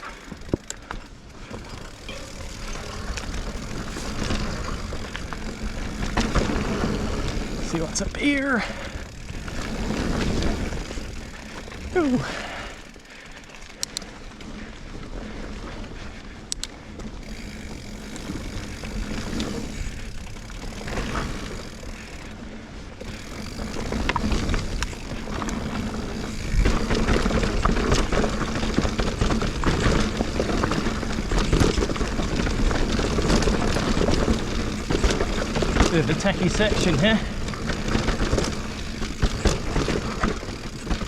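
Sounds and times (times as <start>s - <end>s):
bike rattling and clicking: 0.0s - 41.0s
bike tyres rolling on dirt: 0.0s - 41.0s.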